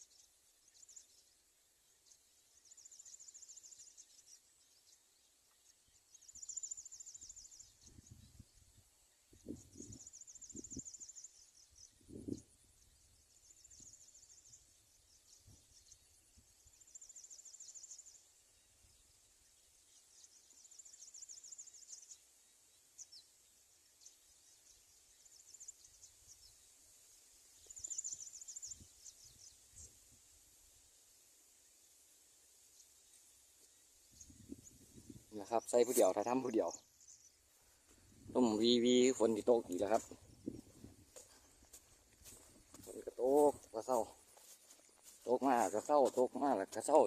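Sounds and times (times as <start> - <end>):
insect chirping: 0.0 - 47.0.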